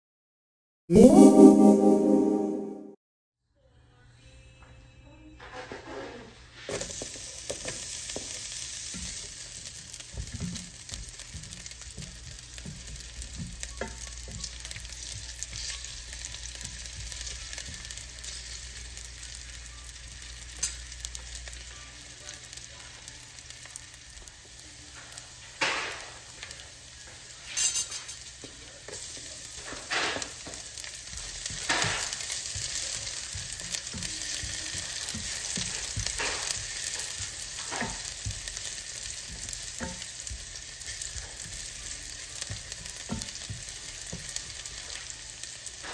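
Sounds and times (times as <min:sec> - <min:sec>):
shallots sizzling in hot oil: 0:06.6 - 0:45.9.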